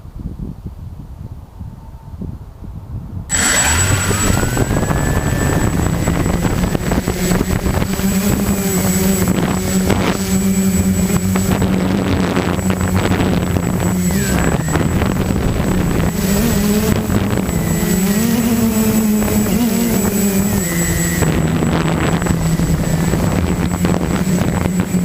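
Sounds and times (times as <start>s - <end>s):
quadcopter motors buzzing: 3.3s - 25.0s.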